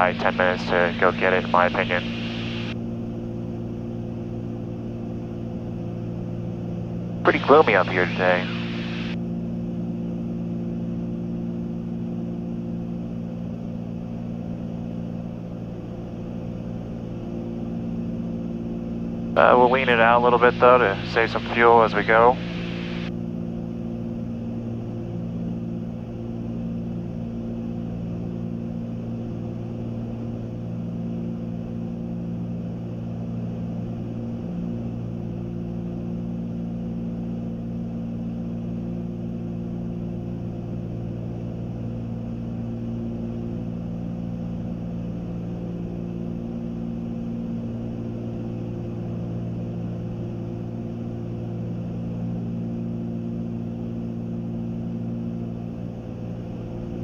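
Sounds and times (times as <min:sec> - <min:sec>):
propeller plane engines droning: 0:00.0 - 0:57.0.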